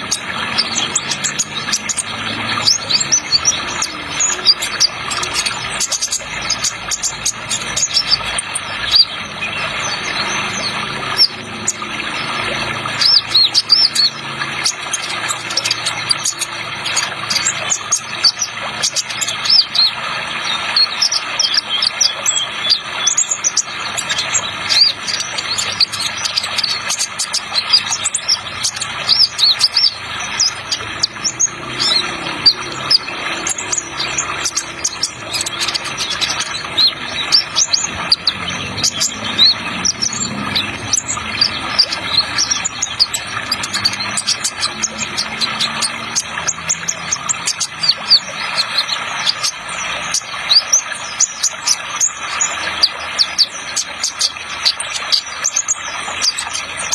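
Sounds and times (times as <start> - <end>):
bird singing high chirps and trills: 0.0 - 56.9
rushing water: 0.0 - 56.9.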